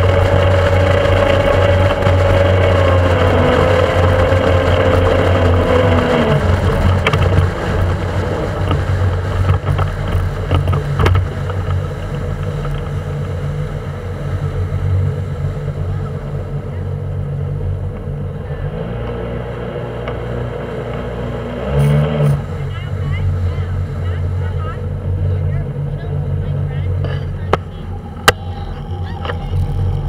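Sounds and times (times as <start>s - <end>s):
motorboat engine humming: 0.0s - 30.0s
wind on microphone: 0.0s - 30.0s.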